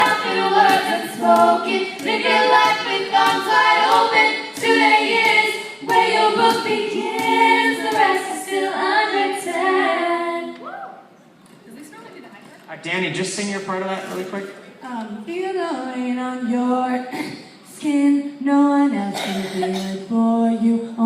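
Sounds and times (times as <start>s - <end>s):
women singing a cappella harmony: 0.0s - 10.7s, 14.8s - 21.0s.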